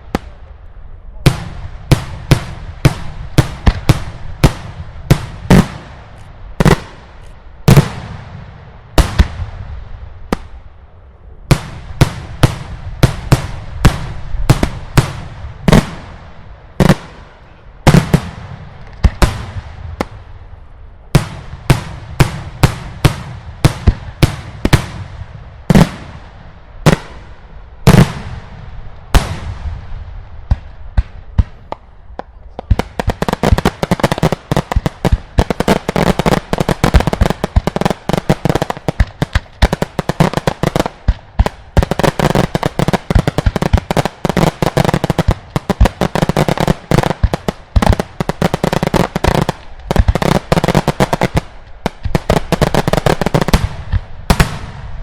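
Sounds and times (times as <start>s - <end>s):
fireworks bangs and crackles: 0.0s - 10.7s, 11.4s - 55.0s.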